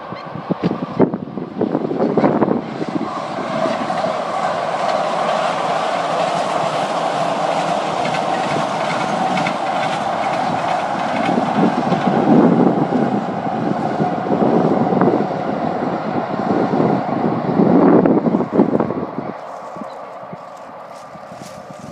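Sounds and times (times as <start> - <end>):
train wheels on rails: 0.1 - 21.9.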